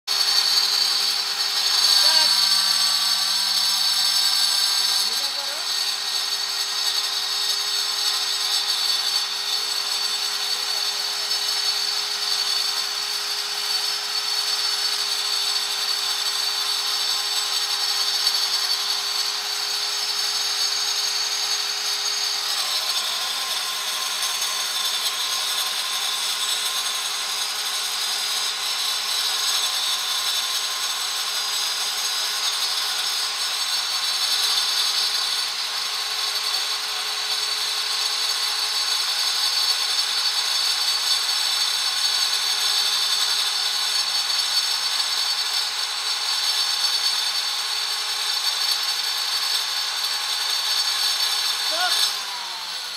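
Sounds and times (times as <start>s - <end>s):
stone cutter whining: 0.0s - 52.9s.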